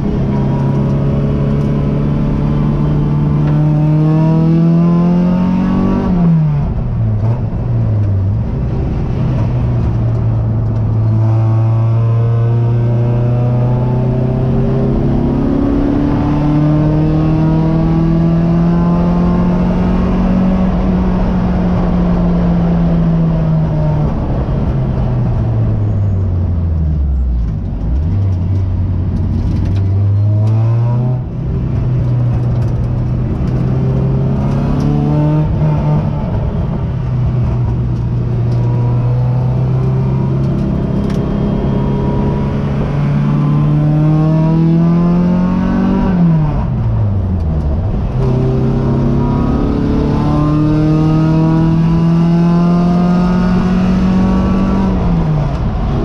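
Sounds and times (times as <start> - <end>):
race car engine revving: 0.0 - 24.7, 27.9 - 56.0.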